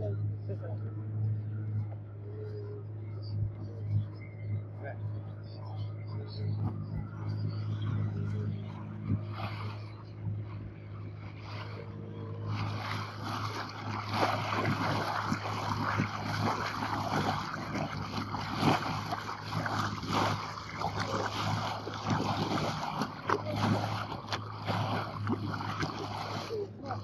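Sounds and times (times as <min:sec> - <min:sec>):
boat engine droning: 0:00.0 - 0:27.0
water slapping against hull: 0:04.7 - 0:27.0.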